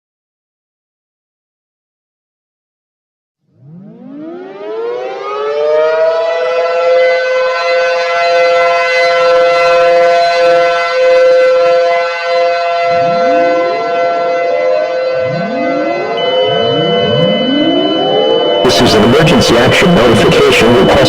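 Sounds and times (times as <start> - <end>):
siren winding up to a wail: 3.4 - 21.0.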